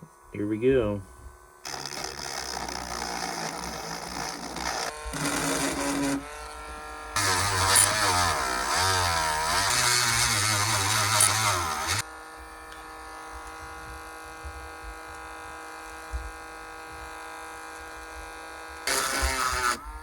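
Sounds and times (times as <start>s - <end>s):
faint steady hum: 0.0s - 20.0s
rotary tool grinding plastic: 0.0s - 20.0s.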